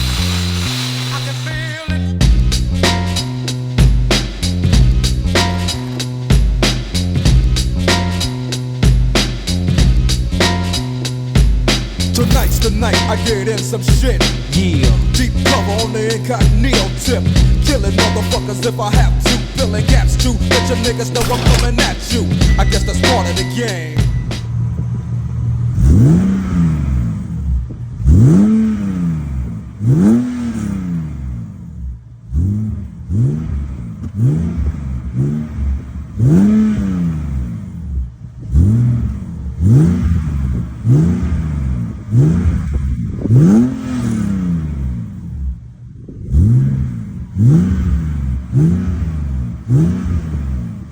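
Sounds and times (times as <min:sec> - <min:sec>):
car engine revving through exhaust: 0:00.0 - 0:50.9.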